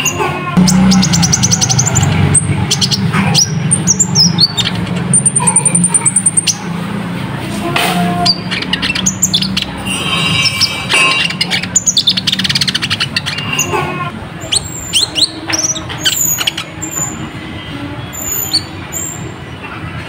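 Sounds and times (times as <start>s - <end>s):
bird singing high chirps and trills: 0.0s - 6.7s, 8.2s - 13.8s, 14.4s - 19.4s.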